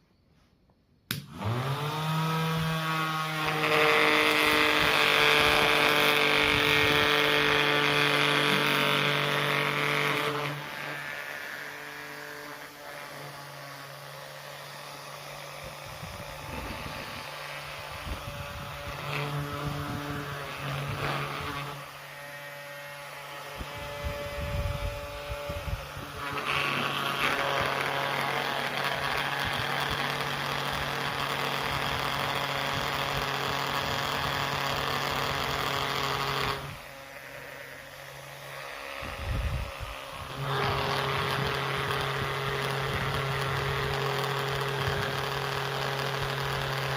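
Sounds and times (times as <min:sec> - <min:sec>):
small electric motor buzzing: 0:01.2 - 0:46.9.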